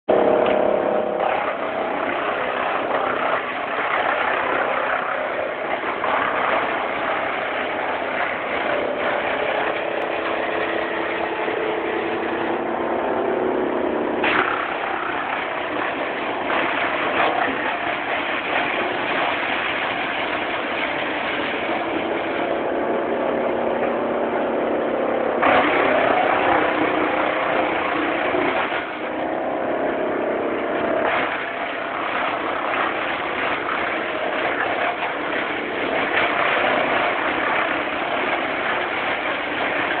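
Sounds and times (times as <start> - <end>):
wood chipper chewing branches: 0.1 - 24.1, 25.4 - 40.0.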